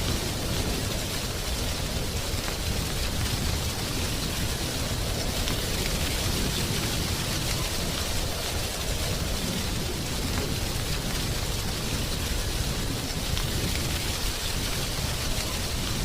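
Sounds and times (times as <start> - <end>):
leaves rustling in wind: 0.0 - 16.0
low wind rumble: 0.0 - 16.0.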